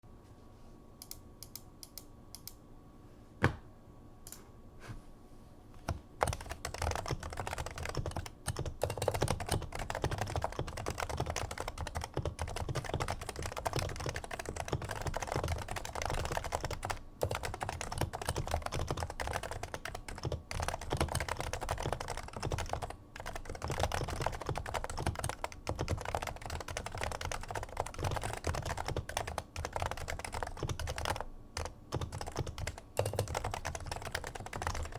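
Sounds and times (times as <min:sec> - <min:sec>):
muted keyboard typing: 0:05.8 - 0:34.9.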